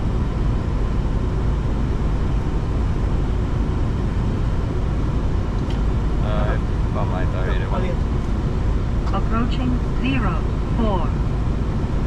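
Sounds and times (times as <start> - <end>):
airflow and engine noise: 0.0 - 12.0.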